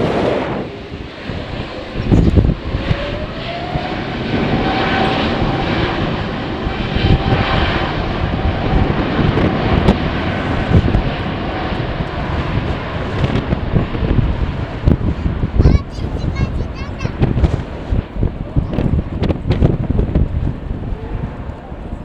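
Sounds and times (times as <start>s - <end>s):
jet engines whining and roaring: 0.0s - 22.0s
wind buffeting microphone: 0.0s - 22.0s.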